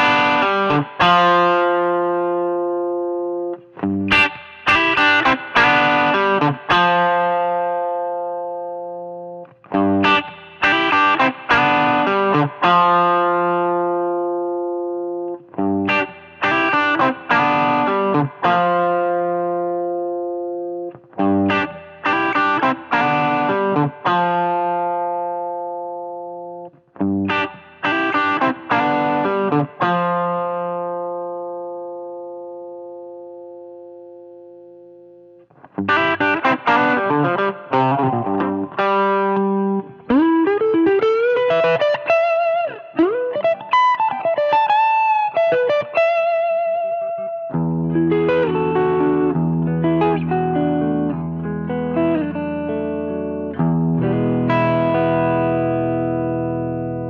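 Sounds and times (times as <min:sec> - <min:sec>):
overdriven electric guitar chords: 0:00.0 - 0:57.0.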